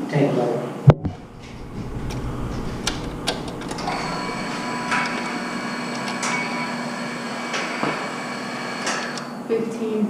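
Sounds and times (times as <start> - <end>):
machine humming and whining: 1.0 - 9.5.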